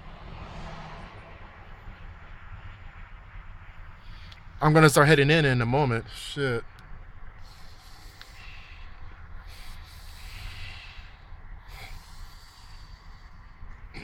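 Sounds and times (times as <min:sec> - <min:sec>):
strong gusty wind: 0:00.0 - 0:14.0.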